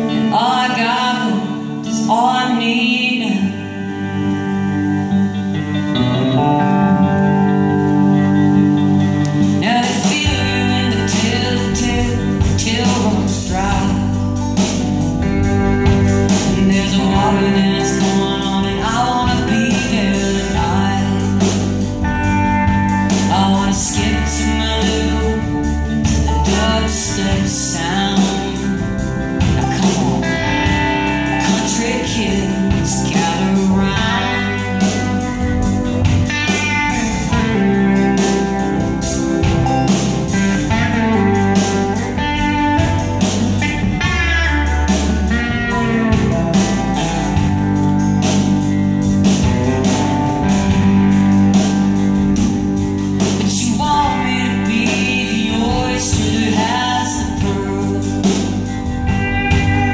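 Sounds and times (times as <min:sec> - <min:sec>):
live folk-rock band playing: 0:00.0 - 0:59.9
sliding lead guitar line: 0:00.0 - 0:59.9.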